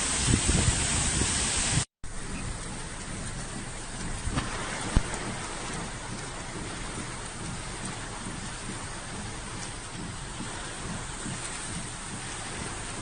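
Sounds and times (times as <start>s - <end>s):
heavy rain hissing: 0.0s - 13.0s
wind buffeting the microphone: 0.0s - 13.0s
sharp ticks of raindrops: 2.1s - 13.0s.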